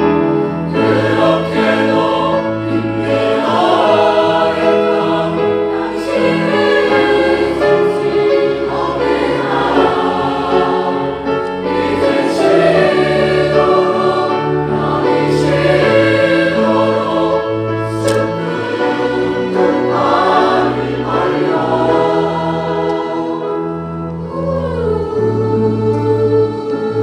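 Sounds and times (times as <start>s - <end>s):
choir singing sacred music: 0.0s - 27.0s.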